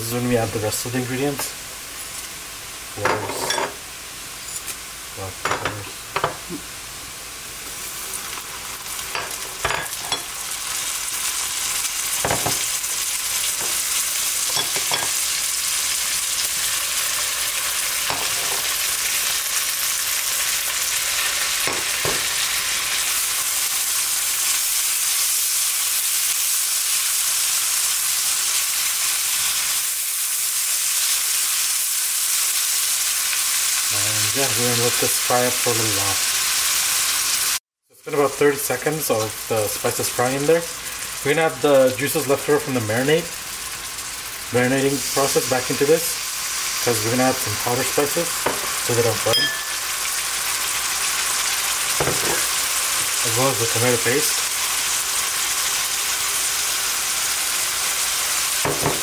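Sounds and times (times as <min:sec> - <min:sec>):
onions sizzling in hot oil: 0:00.0 - 0:59.0.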